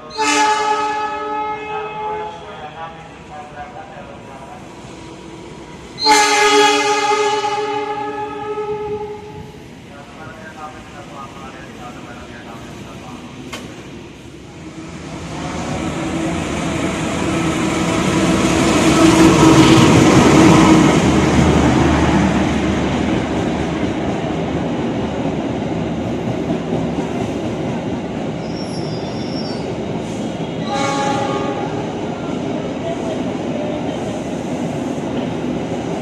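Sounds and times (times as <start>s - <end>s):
diesel locomotive engine: 0.0s - 36.0s
train coaches rolling by: 0.0s - 36.0s.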